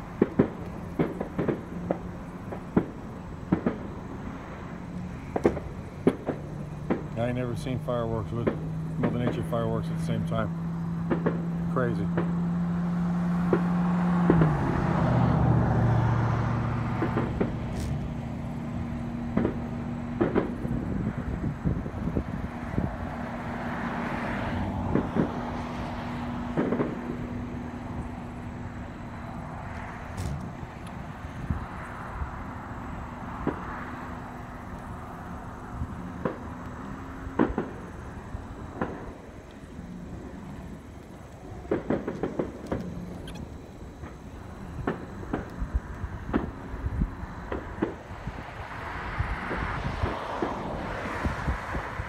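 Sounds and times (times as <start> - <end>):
fireworks popping: 0.0 - 12.6, 13.3 - 52.0
vehicle engine humming: 0.0 - 52.0.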